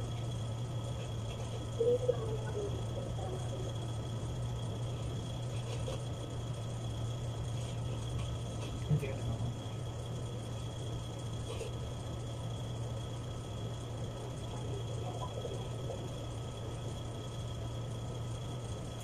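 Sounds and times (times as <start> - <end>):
faint high whine: 0.0 - 19.0
low machine hum: 0.0 - 19.0.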